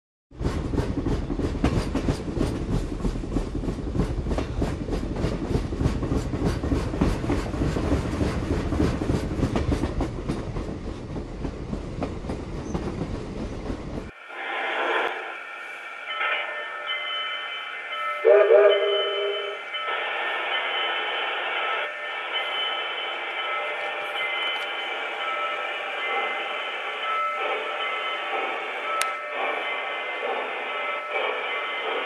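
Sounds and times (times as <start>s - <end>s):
train wheels clacking on rails: 0.3s - 14.2s, 16.1s - 32.0s.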